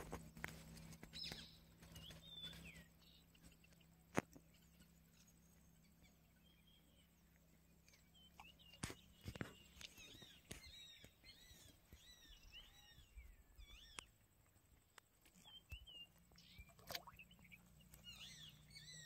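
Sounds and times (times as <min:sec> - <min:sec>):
faint bird chirps: 0:00.3 - 0:14.6, 0:15.2 - 0:19.0.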